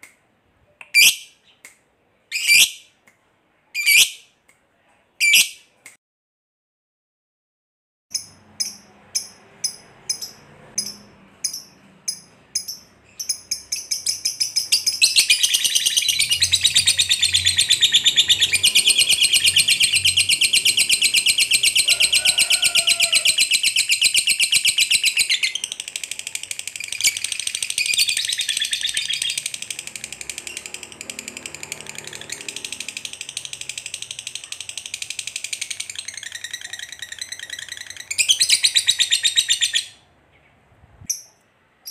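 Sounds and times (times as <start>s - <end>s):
lovebird chirping and trilling: 0.9s - 1.6s, 2.3s - 2.9s, 3.8s - 4.3s, 5.2s - 5.6s, 8.1s - 40.0s, 41.1s - 41.9s.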